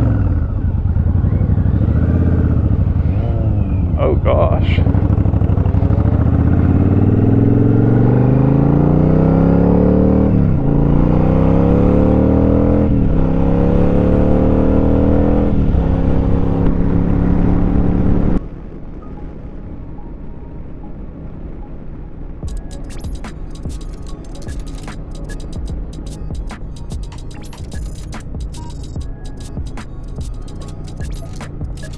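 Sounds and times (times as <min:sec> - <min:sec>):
motorcycle engine accelerating: 0:00.0 - 0:19.0, 0:22.4 - 0:31.9.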